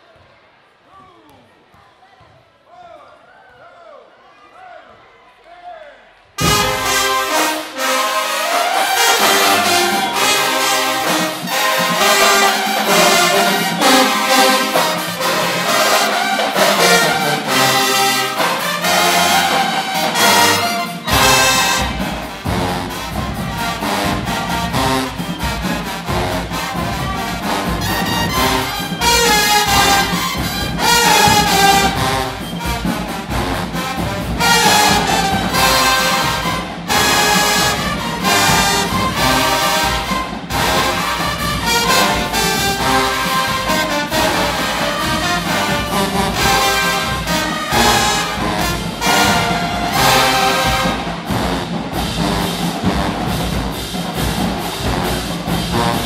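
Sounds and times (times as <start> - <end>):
marching band playing: 6.4 - 56.0.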